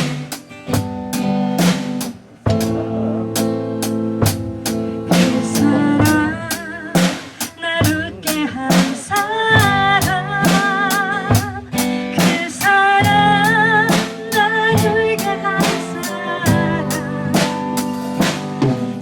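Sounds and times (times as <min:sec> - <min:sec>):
drum kit beat: 0:00.0 - 0:19.0
guitar: 0:00.0 - 0:19.0
person singing: 0:02.4 - 0:18.5.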